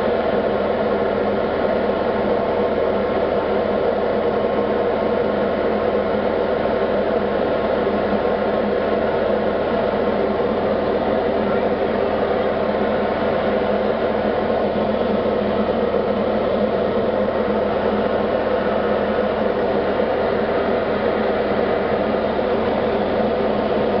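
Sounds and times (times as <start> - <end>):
light aircraft engine and propeller: 0.0 - 24.0.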